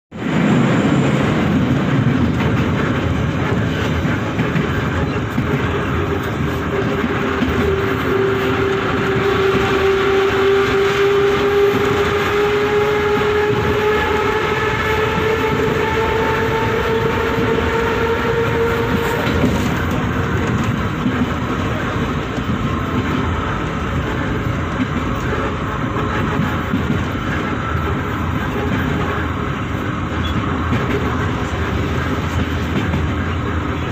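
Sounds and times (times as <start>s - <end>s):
train rumbling on rails: 0.1s - 33.9s.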